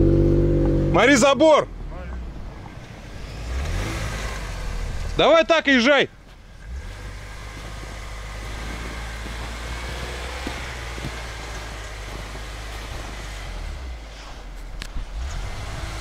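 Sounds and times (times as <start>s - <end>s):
road and tyre noise: 0.0s - 16.0s
car engine running: 2.3s - 16.0s.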